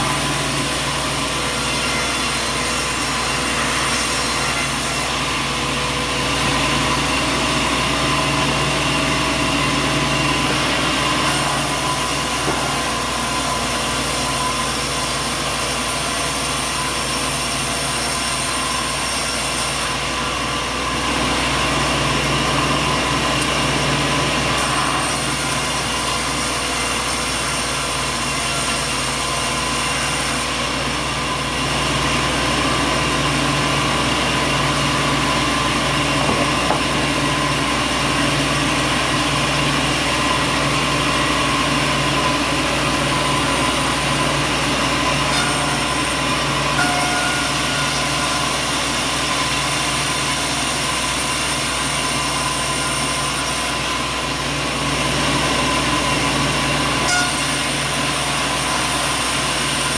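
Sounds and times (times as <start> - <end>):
sawmill machinery din: 0.0 - 59.9.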